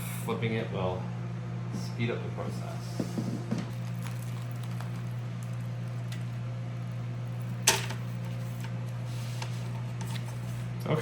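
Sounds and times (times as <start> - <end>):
food dehydrator humming: 0.0 - 11.0.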